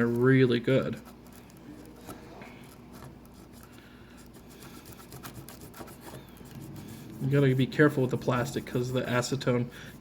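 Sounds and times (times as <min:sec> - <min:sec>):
scratchy rubbing of adhesive: 0:00.8 - 0:10.0.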